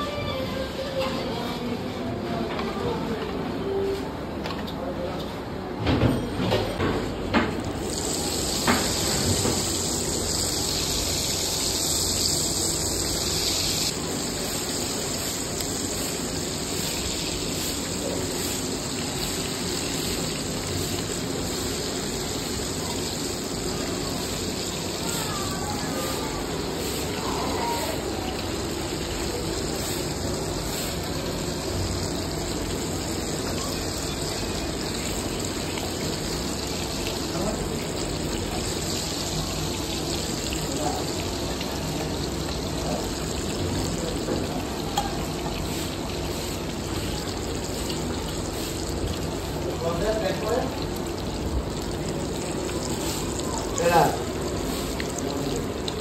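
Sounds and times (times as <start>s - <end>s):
food deep-frying in hot oil: 6.5s - 56.0s.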